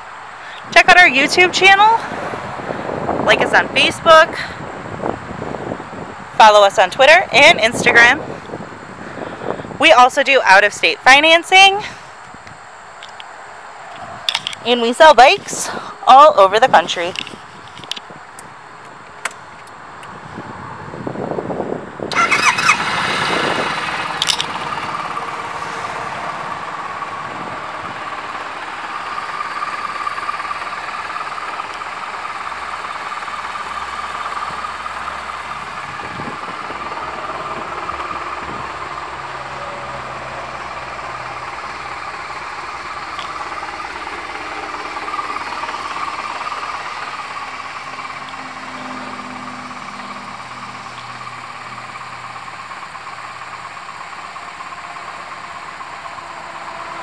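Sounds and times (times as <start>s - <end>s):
motorcycle engine starting and idling: 0.0s - 20.9s, 22.0s - 57.0s.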